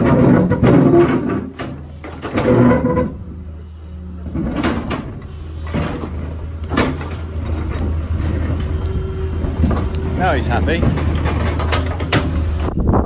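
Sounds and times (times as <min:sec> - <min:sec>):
bucket scraping and cracking asphalt: 0:00.0 - 0:03.4, 0:04.2 - 0:12.8
excavator diesel engine droning: 0:00.0 - 0:13.0.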